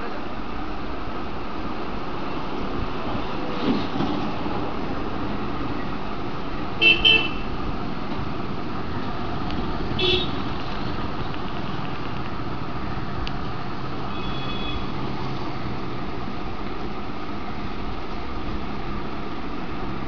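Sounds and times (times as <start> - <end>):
background traffic: 0.0 - 20.0.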